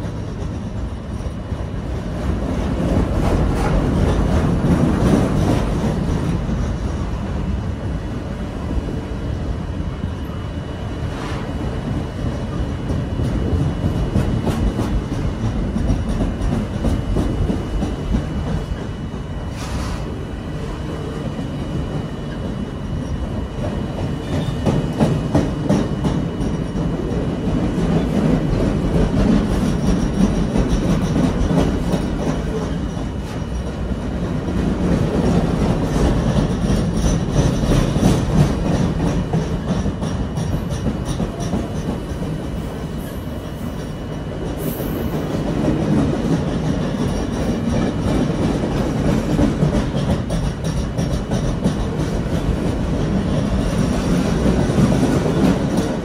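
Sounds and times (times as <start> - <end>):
wheels clacking on rails: 0.0 - 7.7, 11.6 - 19.5, 20.6 - 56.0
freight train rumble: 0.0 - 56.0.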